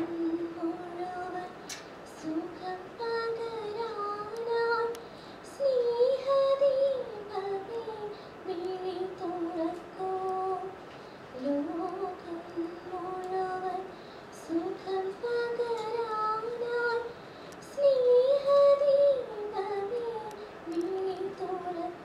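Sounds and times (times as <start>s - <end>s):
woman singing a prayer song: 0.0s - 22.0s.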